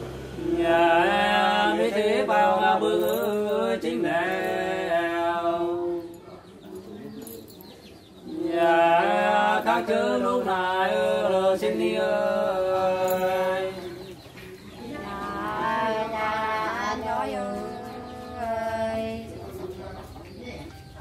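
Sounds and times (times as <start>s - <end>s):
voices singing together: 0.0s - 20.4s.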